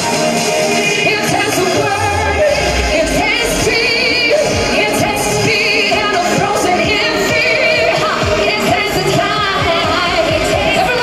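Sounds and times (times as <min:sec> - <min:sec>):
dance-pop backing track: 0:00.0 - 0:11.0
woman singing into microphone: 0:00.4 - 0:11.0.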